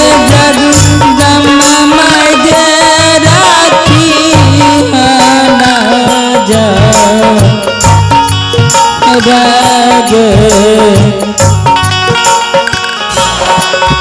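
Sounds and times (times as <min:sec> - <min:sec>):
ornamented folk melody: 0:00.0 - 0:14.0
steady drum beat: 0:00.0 - 0:14.0.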